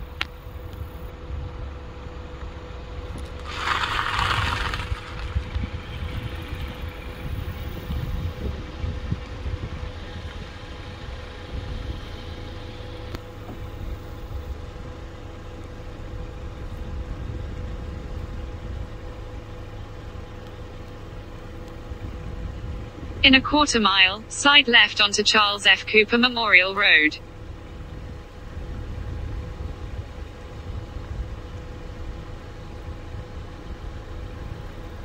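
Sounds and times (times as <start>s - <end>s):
car engine idling: 0.0s - 35.0s
faint steady hum: 5.3s - 35.0s.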